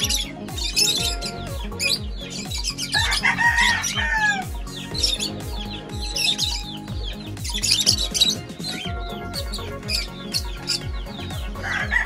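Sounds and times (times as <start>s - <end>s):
background music with low beat: 0.0s - 12.0s
birds chirping: 0.0s - 12.0s.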